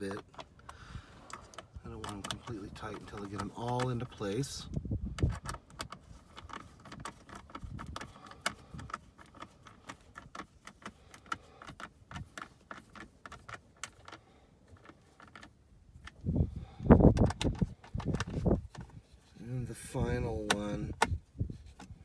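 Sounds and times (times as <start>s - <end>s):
metallic screw clicks and rattles: 0.0s - 16.3s, 17.0s - 19.2s.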